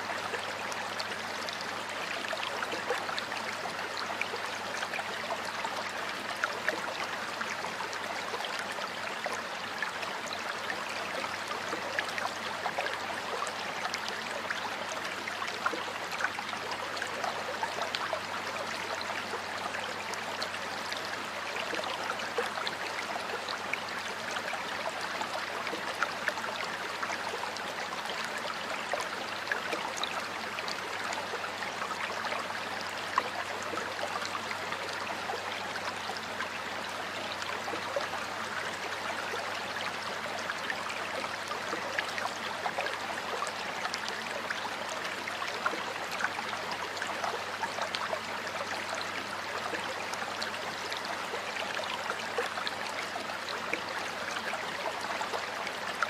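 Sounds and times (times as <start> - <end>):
stream of water splashing: 0.0 - 56.0.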